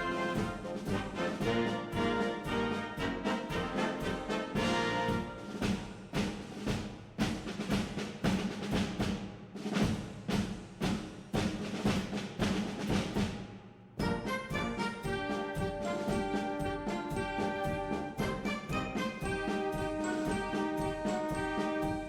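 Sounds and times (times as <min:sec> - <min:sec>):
orchestral music with brass: 0:00.0 - 0:10.1, 0:14.0 - 0:22.0
timpani hits: 0:00.0 - 0:22.0.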